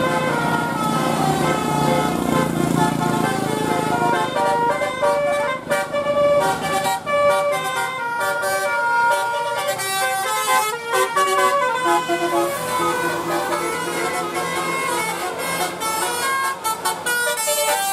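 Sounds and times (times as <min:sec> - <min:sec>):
multi-tone bus horn playing a tune: 0:00.0 - 0:17.9
road vehicle noise: 0:00.0 - 0:17.9.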